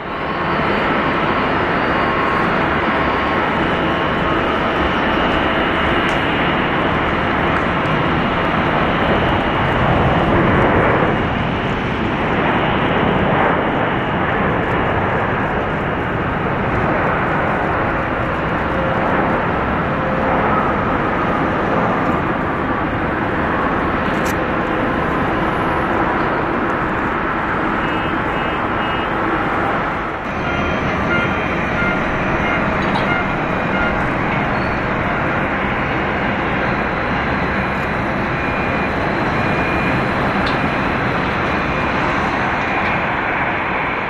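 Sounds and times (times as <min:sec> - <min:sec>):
jet engines of landed airliner: 0:00.0 - 0:44.0.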